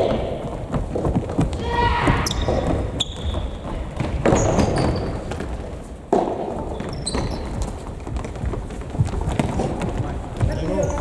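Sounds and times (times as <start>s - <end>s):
ball kick echoing in a gym: 0.0s - 11.0s
sneakers squeaking on court floor: 0.0s - 11.0s.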